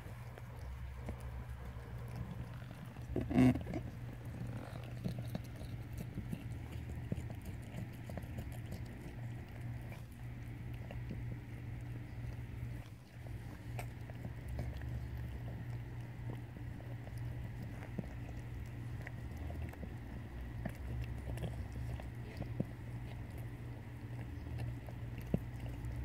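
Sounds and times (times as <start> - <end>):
cat licking kitten wet clicks: 0.0 - 26.0
steady low hum: 0.0 - 26.0.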